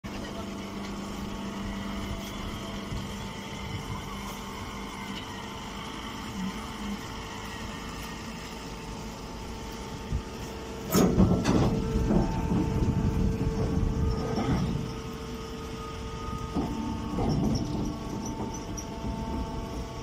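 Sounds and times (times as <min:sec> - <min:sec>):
baling machine humming: 0:00.0 - 0:20.0.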